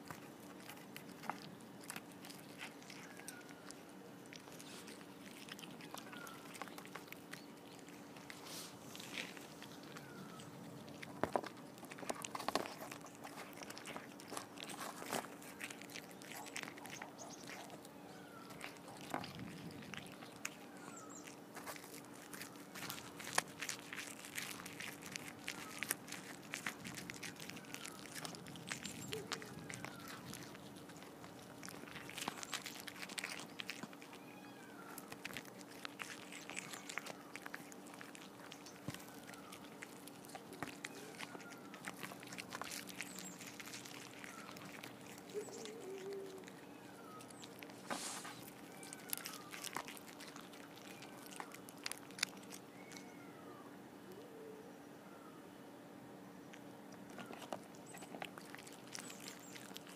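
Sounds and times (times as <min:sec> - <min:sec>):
cats chewing and crunching fish: 0:00.0 - 0:54.3, 0:56.2 - 0:59.9.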